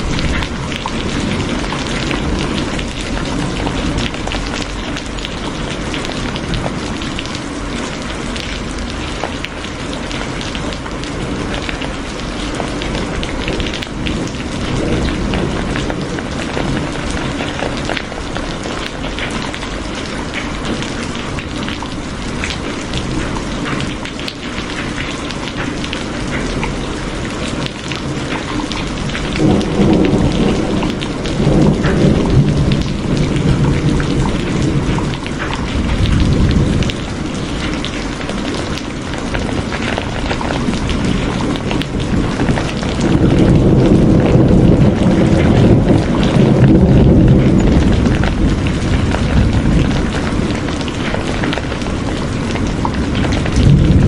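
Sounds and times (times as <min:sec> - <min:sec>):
thunder rumble: 0:00.0 - 0:24.0, 0:25.6 - 0:54.0
heavy rain: 0:00.0 - 0:54.0.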